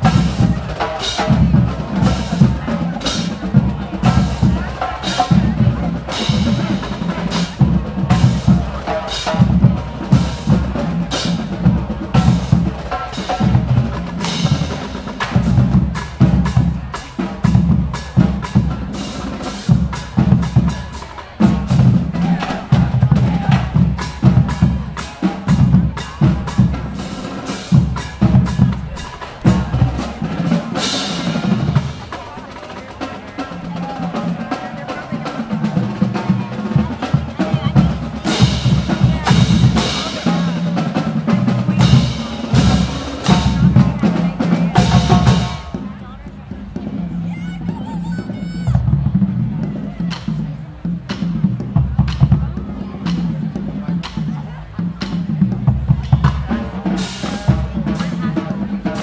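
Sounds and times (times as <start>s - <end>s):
drumline playing a cadence: 0.0s - 59.0s
loud bass drum beat: 0.0s - 59.0s.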